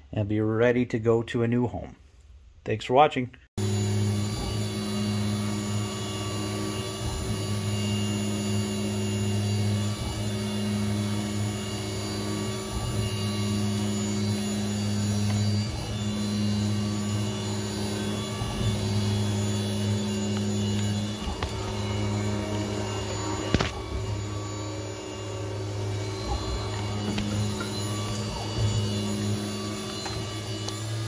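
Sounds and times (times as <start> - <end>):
milling machine hum: 3.6 - 31.0.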